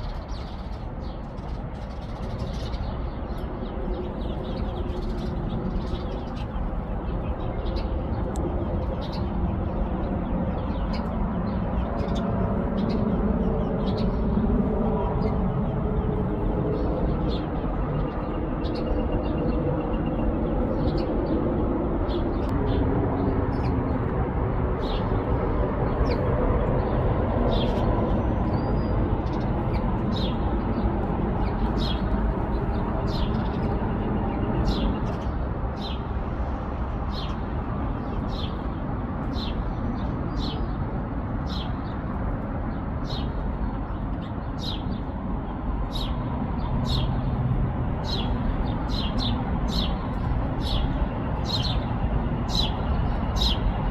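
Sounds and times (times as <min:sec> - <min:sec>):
small birds chirping: 0:00.0 - 0:22.8, 0:24.8 - 0:36.1, 0:43.0 - 0:53.9.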